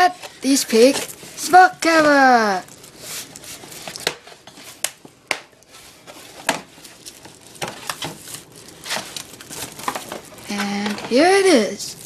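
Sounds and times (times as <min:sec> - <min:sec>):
cardboard rustling: 0:00.0 - 0:05.0, 0:05.7 - 0:11.7.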